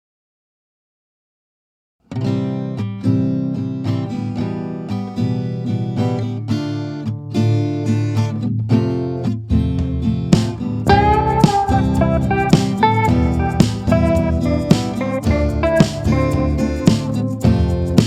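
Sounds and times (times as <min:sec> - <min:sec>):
strummed acoustic guitar: 0:02.1 - 0:18.0.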